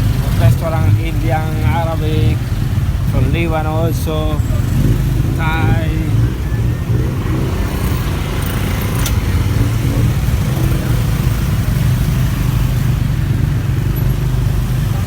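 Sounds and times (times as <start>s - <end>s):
motorbike engine running: 0.0s - 15.0s
road traffic noise: 0.0s - 15.0s.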